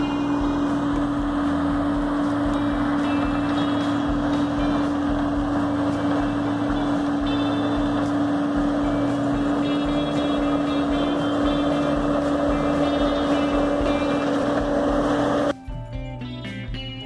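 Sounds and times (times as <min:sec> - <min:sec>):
harvester machine hum: 0:00.0 - 0:15.6.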